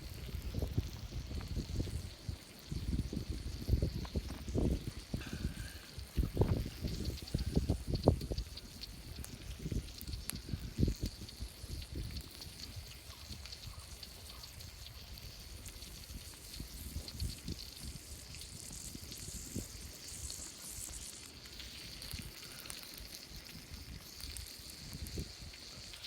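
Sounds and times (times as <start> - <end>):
wind rumble on microphone: 0.0 - 20.3, 23.5 - 26.0
wood fire crackling: 0.0 - 26.0.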